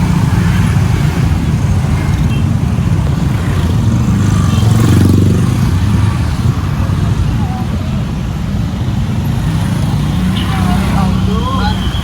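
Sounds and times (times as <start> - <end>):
road noise: 0.0 - 12.0
vehicle engine: 0.0 - 12.0.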